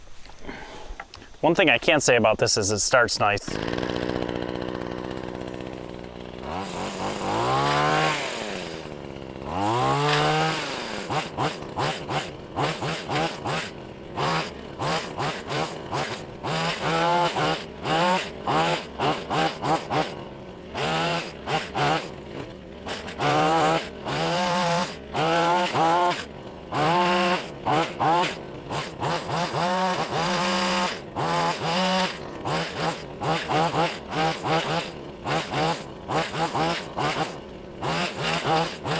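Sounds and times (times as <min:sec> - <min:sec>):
hedge trimmer engine revving: 0:03.4 - 0:38.9.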